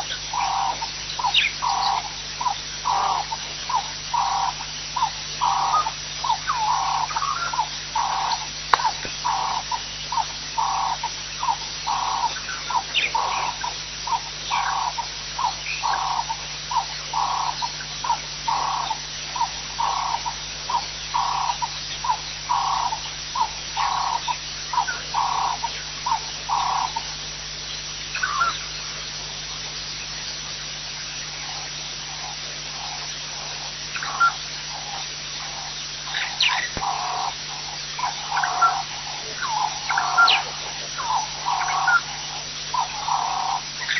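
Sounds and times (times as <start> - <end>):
frog calling: 0.0 - 43.9
steady low hum: 0.0 - 43.9.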